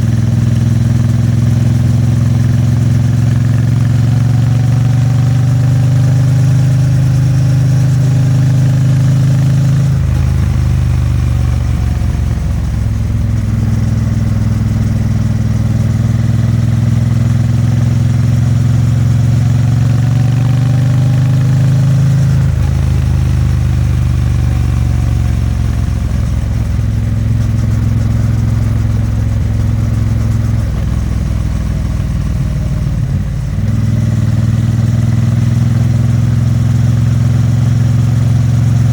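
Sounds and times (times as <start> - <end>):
motorcycle exhaust while riding: 0.0 - 38.9.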